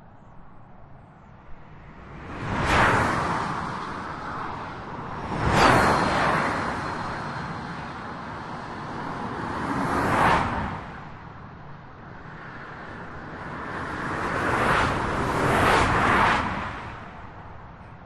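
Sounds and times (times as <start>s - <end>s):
cars passing on a freeway: 0.0s - 18.0s.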